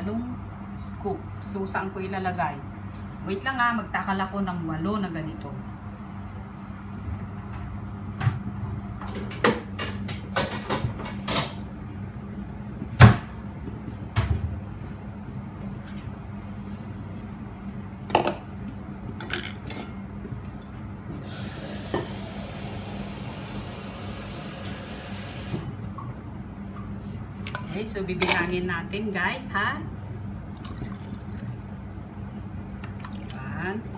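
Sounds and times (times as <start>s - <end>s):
steady low hum: 0.0s - 21.3s, 25.6s - 33.9s.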